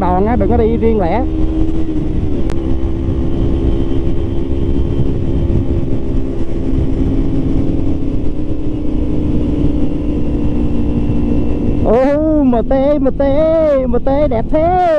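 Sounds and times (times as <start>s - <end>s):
motorcycle engine running: 0.0s - 14.9s
wind rumble on microphone: 0.0s - 14.9s.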